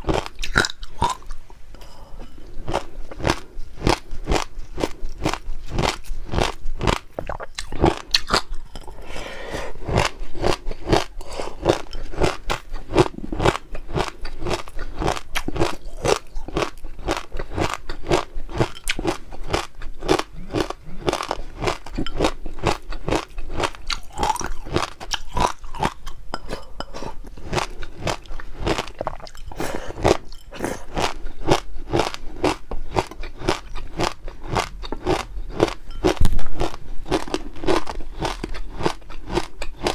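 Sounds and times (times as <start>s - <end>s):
crunchy chewing: 0.0s - 1.4s, 2.6s - 9.0s, 9.8s - 39.9s.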